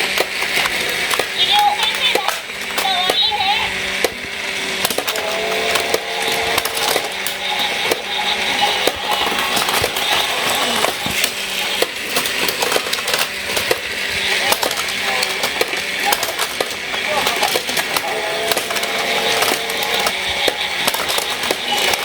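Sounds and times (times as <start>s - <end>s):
toy train motor hum: 0.0s - 22.0s
toy trains clattering on plastic track: 0.0s - 22.0s.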